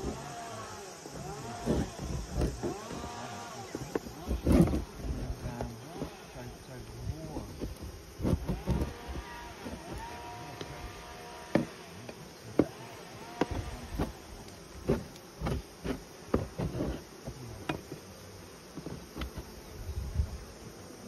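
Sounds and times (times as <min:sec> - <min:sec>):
hive tool scraping wood: 0:00.0 - 0:19.8
honeybees buzzing: 0:00.0 - 0:21.0.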